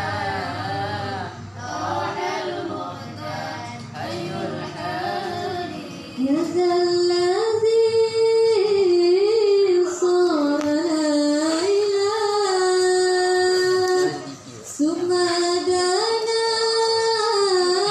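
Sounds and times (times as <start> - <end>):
woman singing unaccompanied: 1.8 - 17.9.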